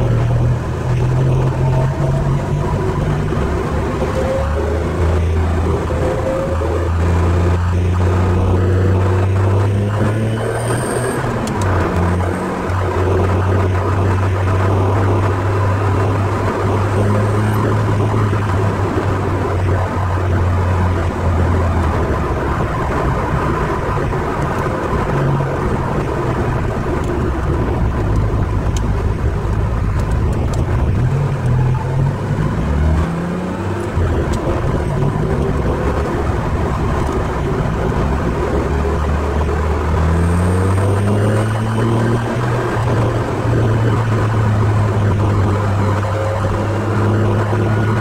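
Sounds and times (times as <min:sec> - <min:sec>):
car engine revving: 0:00.0 - 0:48.0
road and wind noise: 0:00.0 - 0:48.0.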